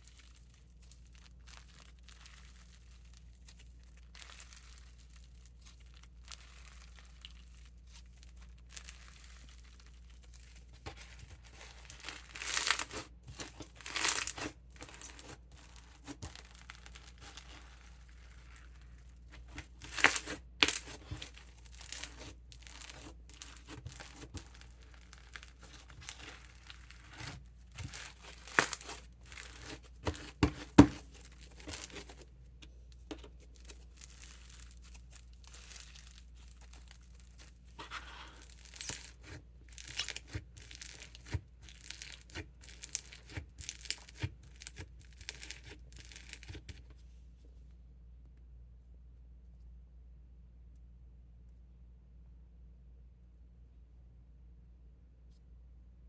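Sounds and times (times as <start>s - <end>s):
slime beads crackling and crunching: 0.0s - 32.3s, 32.9s - 46.8s.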